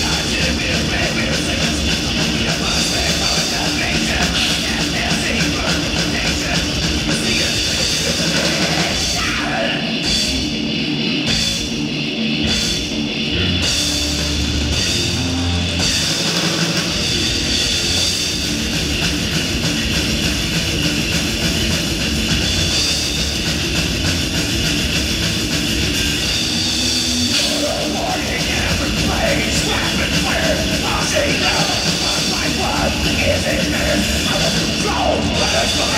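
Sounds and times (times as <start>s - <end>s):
heavy metal band playing live: 0.0s - 35.9s.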